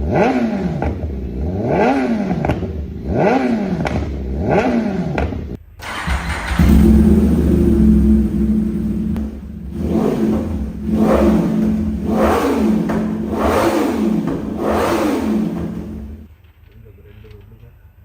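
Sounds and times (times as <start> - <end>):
motorcycle engine idling and revving: 0.0 - 16.4.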